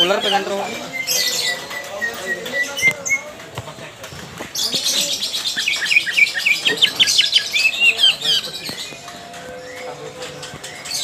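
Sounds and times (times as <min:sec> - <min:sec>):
bird singing rapid chattering notes: 0:00.0 - 0:03.4, 0:04.5 - 0:11.0.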